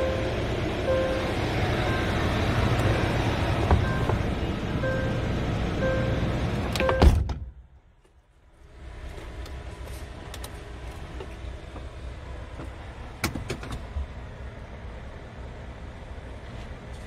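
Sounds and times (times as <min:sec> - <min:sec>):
diesel engine idling: 0:00.0 - 0:13.2, 0:13.8 - 0:17.0.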